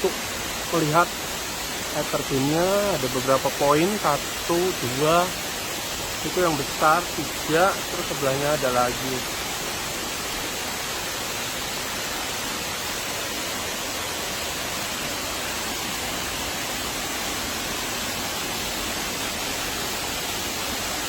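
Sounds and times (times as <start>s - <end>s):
waterfalls rushing: 0.0s - 21.0s.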